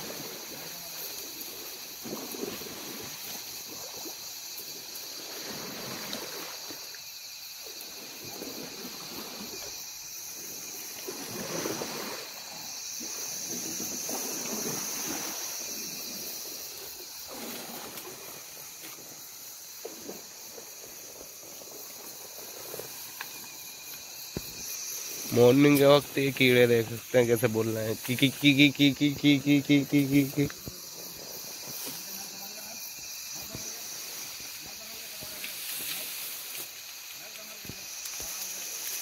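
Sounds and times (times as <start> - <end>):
insects chorus: 0.0 - 39.0.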